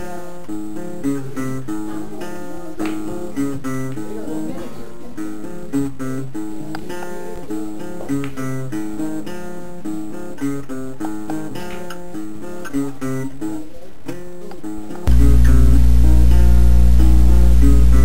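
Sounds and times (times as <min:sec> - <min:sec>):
acoustic guitar melody: 0:00.0 - 0:18.0.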